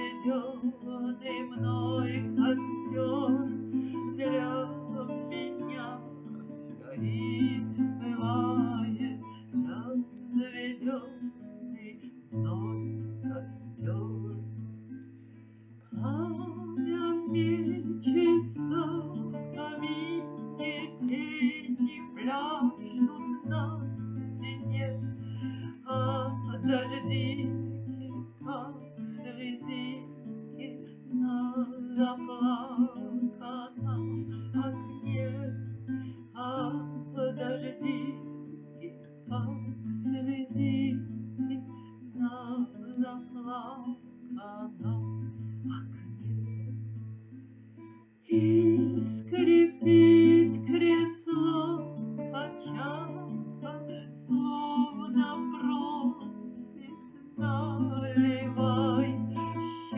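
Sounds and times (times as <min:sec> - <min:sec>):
acoustic guitar playing: 0:00.0 - 0:59.9.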